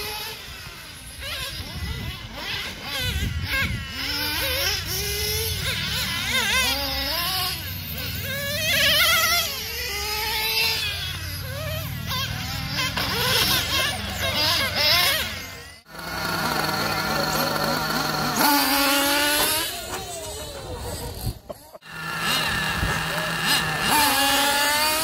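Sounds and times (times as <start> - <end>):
rc car engines whining: 0.0 - 25.0.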